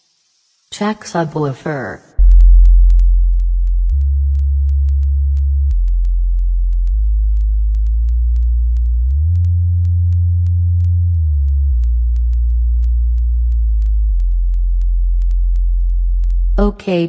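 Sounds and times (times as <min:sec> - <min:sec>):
deep synthetic bass tone: 0:02.2 - 0:16.7.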